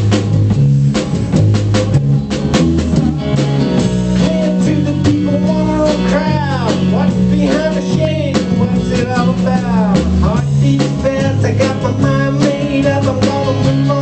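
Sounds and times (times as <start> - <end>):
steady bass line: 0.0 - 14.0.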